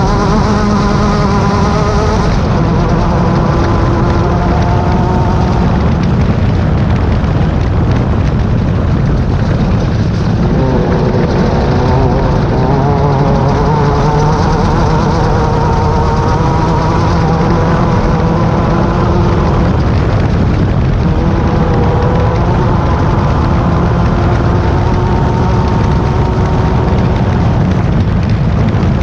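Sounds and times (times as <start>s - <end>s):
buggy engine running hard: 0.0s - 29.0s.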